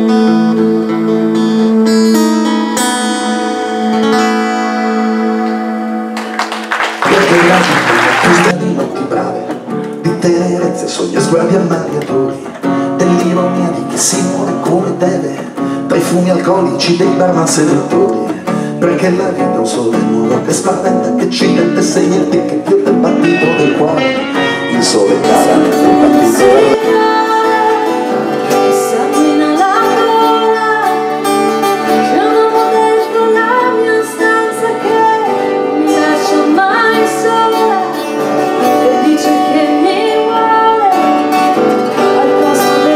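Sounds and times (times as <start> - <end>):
acoustic guitars strumming: 0.0 - 42.9
person singing: 7.0 - 42.9.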